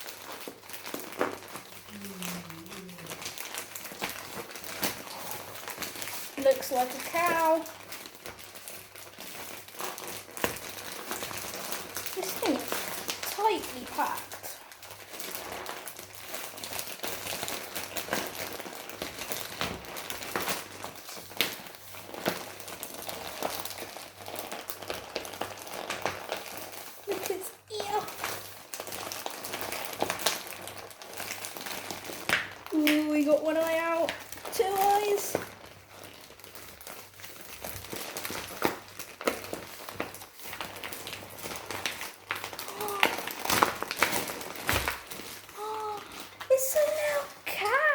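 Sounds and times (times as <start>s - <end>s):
sharp packaging snaps: 0.0s - 47.7s
crinkly packaging crackling: 0.0s - 47.9s.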